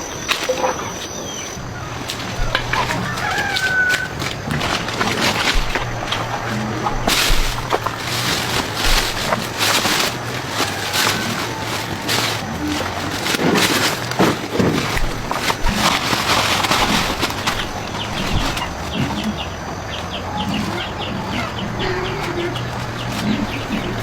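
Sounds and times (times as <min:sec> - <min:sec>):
bird calls: 0:00.0 - 0:24.0
knocks and clatter: 0:00.1 - 0:24.0.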